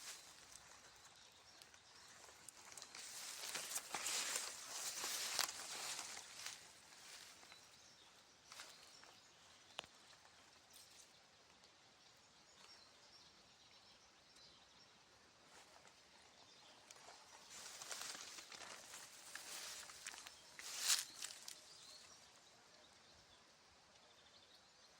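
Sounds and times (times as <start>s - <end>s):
faint outdoor hiss: 0.0s - 24.9s.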